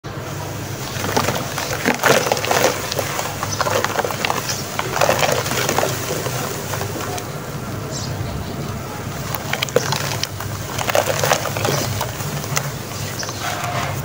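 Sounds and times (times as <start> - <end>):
wet cement crunching: 0.1 - 14.0
small water splashes: 0.4 - 7.6, 8.9 - 13.6.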